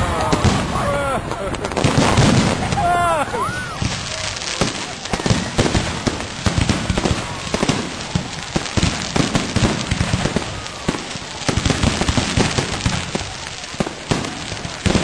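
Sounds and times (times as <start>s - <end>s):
firecrackers banging and crackling: 0.0s - 15.0s.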